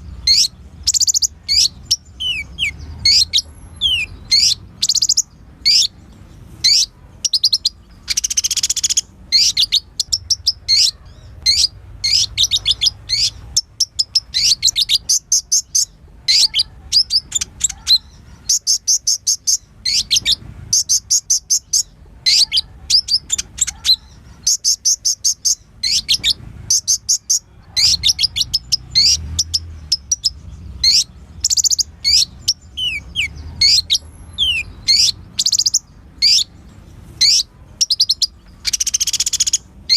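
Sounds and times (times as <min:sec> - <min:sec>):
bird chirping: 0:00.0 - 0:39.9
buzzy bird trill: 0:00.0 - 0:39.9.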